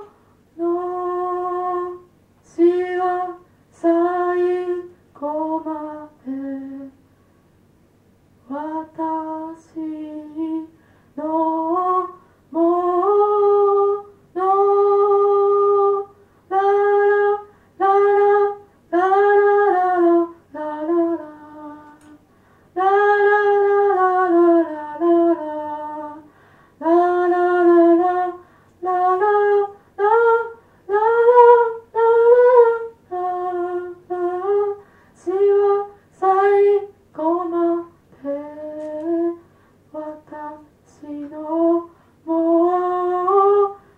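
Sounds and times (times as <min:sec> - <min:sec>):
woman singing unaccompanied: 0:00.0 - 0:07.1, 0:08.4 - 0:43.9.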